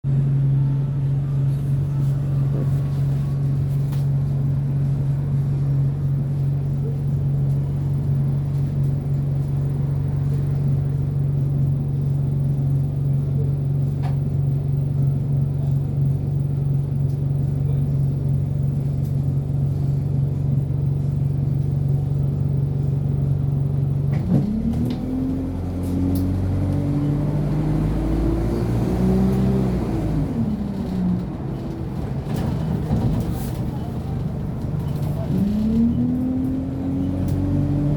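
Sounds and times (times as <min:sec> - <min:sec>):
bus engine and cooling fan drone: 0:00.0 - 0:37.9.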